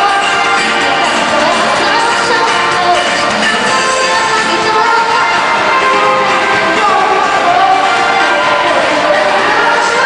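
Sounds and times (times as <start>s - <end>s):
amplified pop music: 0.0s - 10.0s
woman singing: 0.0s - 10.0s.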